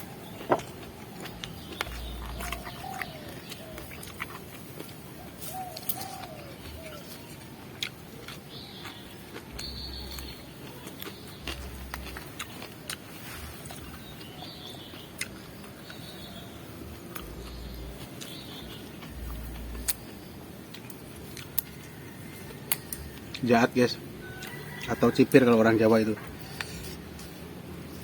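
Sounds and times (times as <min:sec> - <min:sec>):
birds chirping faintly: 0:00.0 - 0:28.0
crunching raw vegetables: 0:00.0 - 0:28.0.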